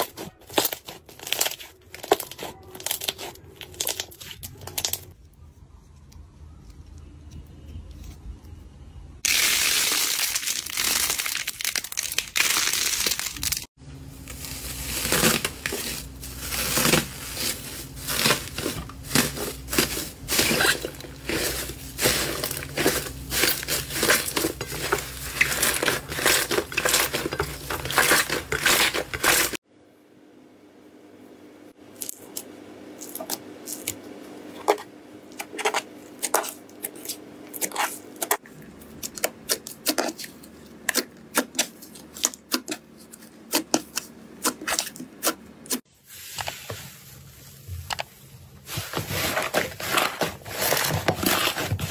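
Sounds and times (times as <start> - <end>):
slime with foil crinkling: 0.0 - 5.2, 9.2 - 29.6, 35.6 - 51.9.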